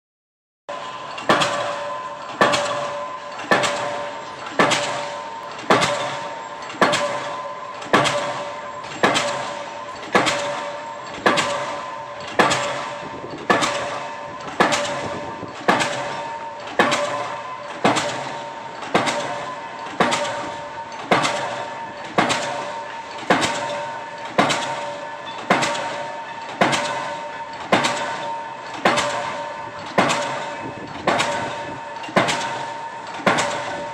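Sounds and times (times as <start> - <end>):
pile hammer blows: 0.8 - 33.9.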